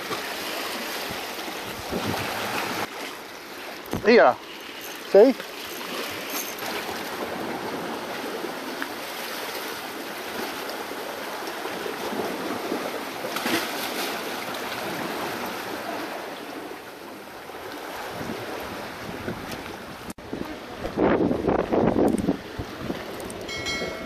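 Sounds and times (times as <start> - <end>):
small waves splashing against rock: 0.0 - 19.8.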